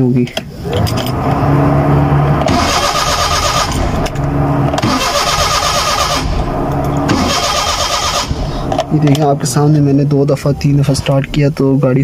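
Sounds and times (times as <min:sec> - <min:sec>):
engine cranking without firing: 0:00.6 - 0:11.5.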